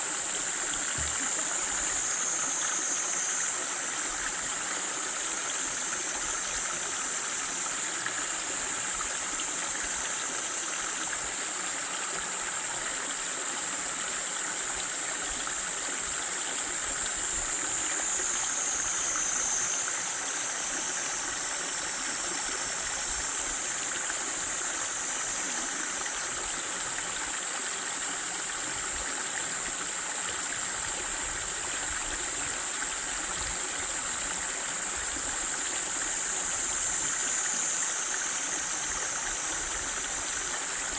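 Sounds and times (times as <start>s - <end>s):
stream water rushing over rocks: 0.0s - 40.9s.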